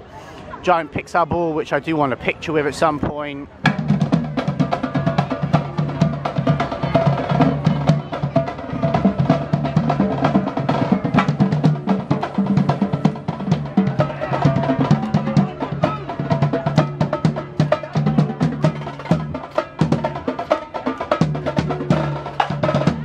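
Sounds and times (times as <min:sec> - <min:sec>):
music with drum-kit beat: 0:03.7 - 0:23.0.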